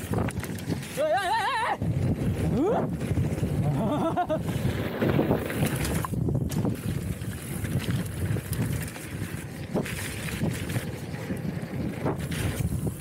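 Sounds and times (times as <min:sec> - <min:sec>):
bike rolling over rough ground: 0:00.0 - 0:13.0
wind rushing over microphone: 0:00.0 - 0:13.0.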